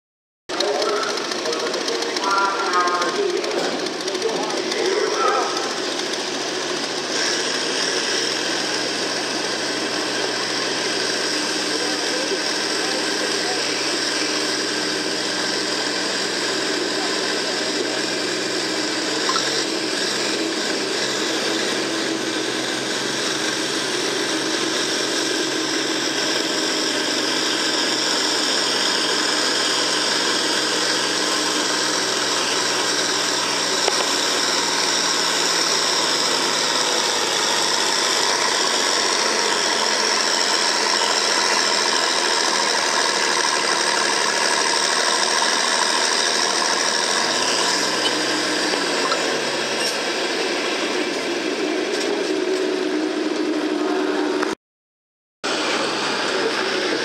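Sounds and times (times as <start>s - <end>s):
tractor diesel engine under load: 0.5s - 54.6s, 55.4s - 57.0s.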